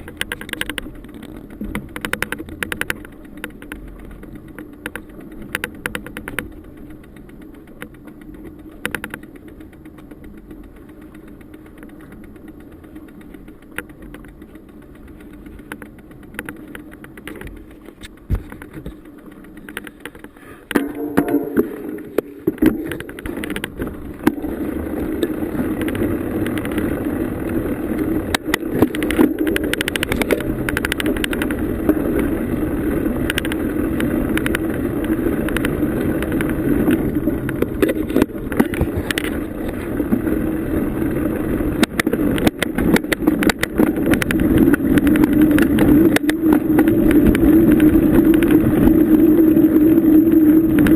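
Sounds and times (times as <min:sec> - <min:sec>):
bicycle rattles and clicks: 0:00.0 - 0:50.9
bicycle tyres rumbling on dirt: 0:00.0 - 0:50.9.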